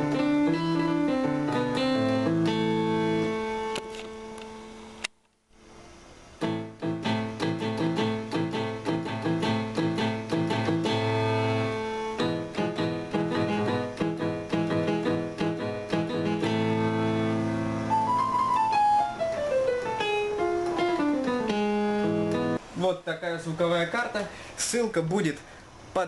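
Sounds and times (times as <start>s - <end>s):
synthesizer keyboard playing: 0.0s - 5.0s, 6.4s - 22.6s.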